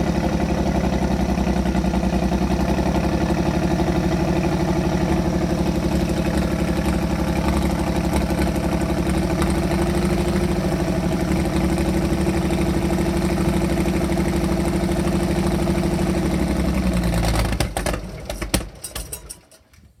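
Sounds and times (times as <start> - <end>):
engine knocking as it stops: 0.0 - 19.1
tractor engine idling: 0.0 - 19.6.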